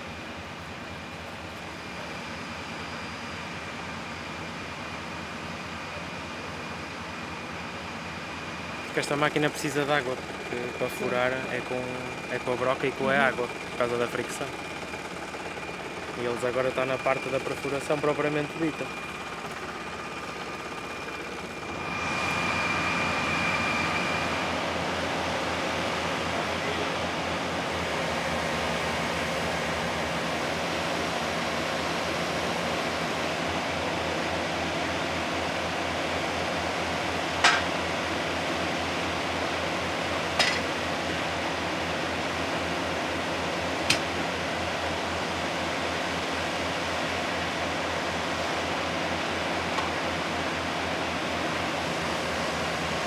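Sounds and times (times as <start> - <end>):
drilling rig engine drone: 0.0 - 53.0.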